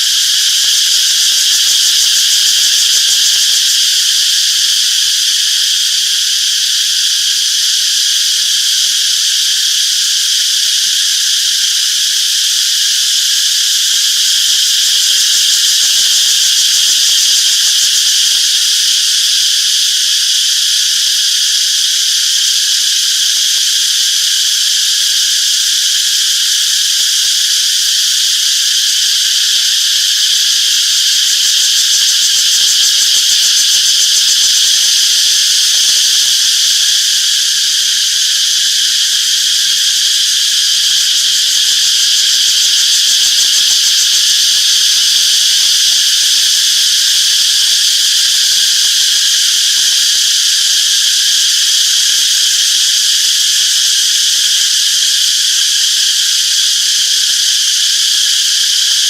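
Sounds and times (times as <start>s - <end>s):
cicadas chirping: 0.0s - 59.0s.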